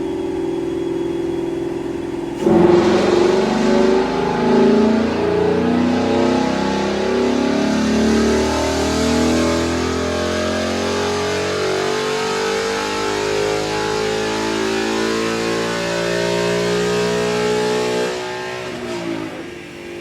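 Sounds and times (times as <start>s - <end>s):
car engine on dyno: 0.0s - 20.0s.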